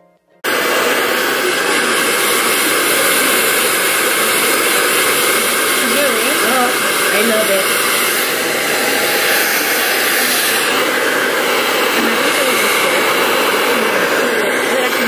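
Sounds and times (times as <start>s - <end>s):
hair dryer blowing: 0.4s - 15.0s.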